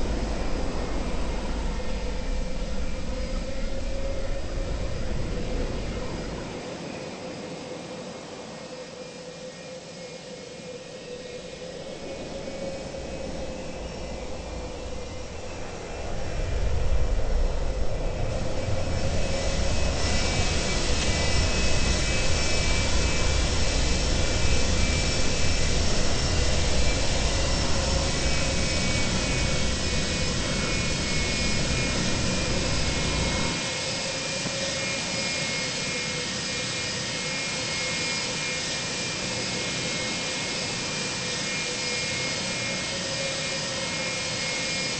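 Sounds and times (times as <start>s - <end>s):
deep rumble of wheels on runway: 0.0s - 44.9s
jet engines heard from cabin: 0.0s - 44.9s.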